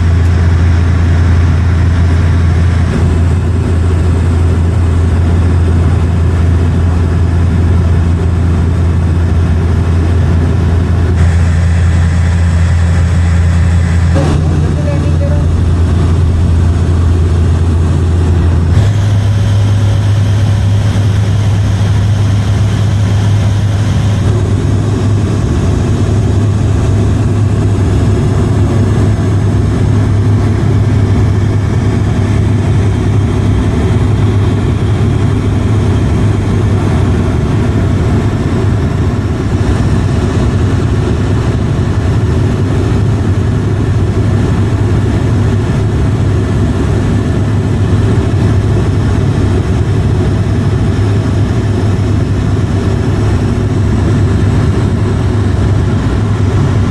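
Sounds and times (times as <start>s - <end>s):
airliner engines droning in cabin: 0.0s - 56.9s.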